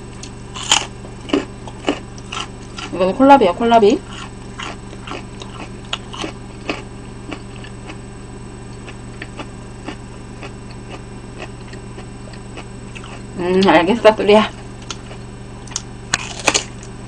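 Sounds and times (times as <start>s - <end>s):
low electrical hum: 0.0s - 17.0s
crunchy chewing: 0.2s - 3.0s, 4.0s - 13.4s, 14.5s - 17.0s.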